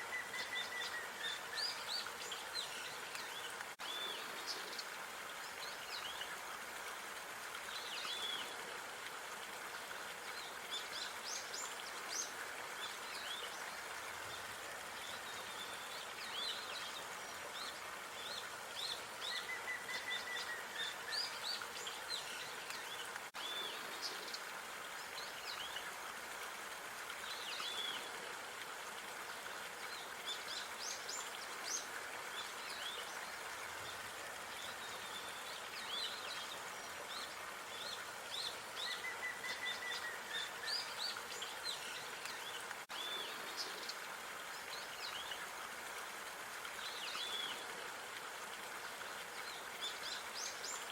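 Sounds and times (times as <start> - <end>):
outdoor background hiss: 0.0 - 50.9
songbirds chirping and twittering: 0.0 - 50.9.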